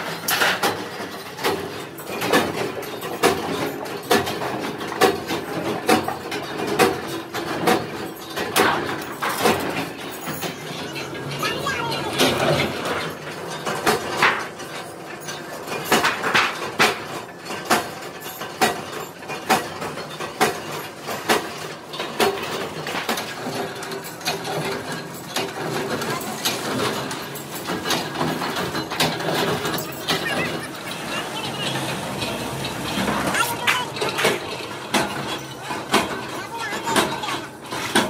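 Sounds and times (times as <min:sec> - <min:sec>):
steady background noise: 0:00.0 - 0:38.0.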